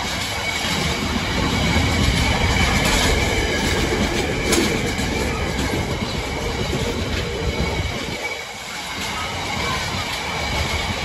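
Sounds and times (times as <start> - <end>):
train rumble: 0.0 - 11.0
train wheels knocking on rail joints: 0.0 - 11.0.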